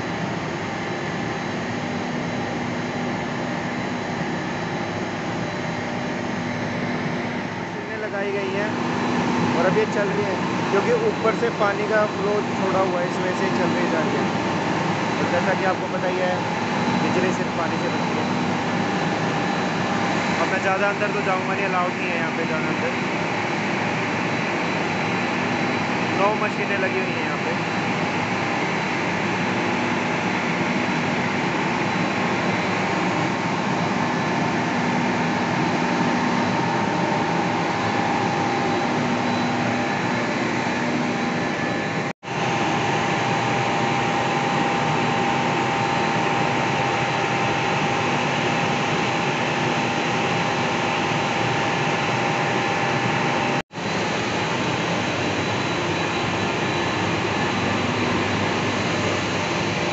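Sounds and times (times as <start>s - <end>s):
generator machinery whirring drone: 0.0s - 59.9s.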